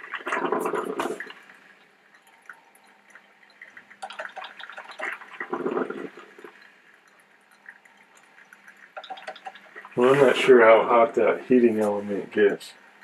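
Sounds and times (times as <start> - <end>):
coffee maker gurgling and sputtering: 0.0 - 13.0.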